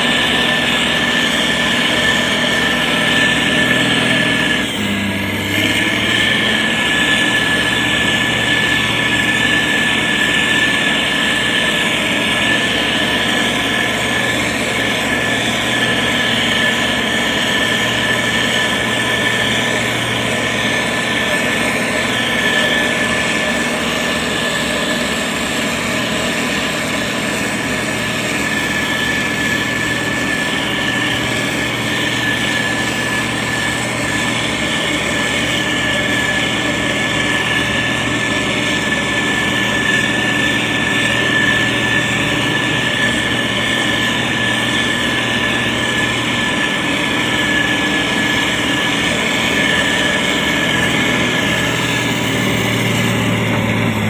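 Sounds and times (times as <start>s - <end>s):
diesel engine droning: 0.0s - 54.0s
high whine: 0.0s - 54.0s.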